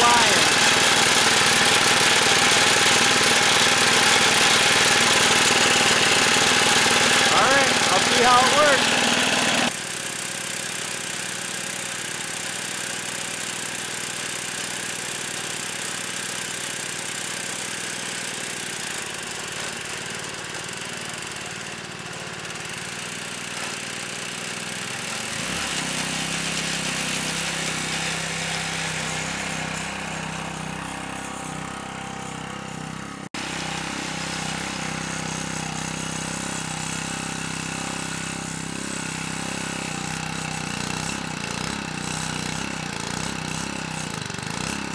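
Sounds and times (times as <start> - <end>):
lawnmower engine running: 0.0 - 44.9.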